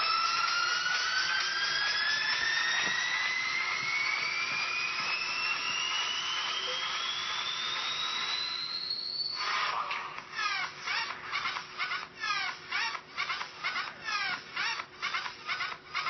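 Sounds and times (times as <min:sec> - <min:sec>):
high whine rising in pitch: 0:00.0 - 0:16.0.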